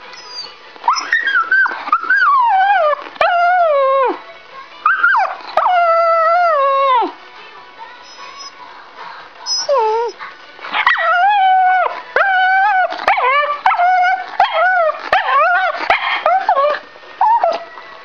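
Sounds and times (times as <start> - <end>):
dog whining and yipping: 0.1 - 4.2, 4.9 - 7.1, 8.1 - 8.6, 9.5 - 10.2, 10.8 - 17.7.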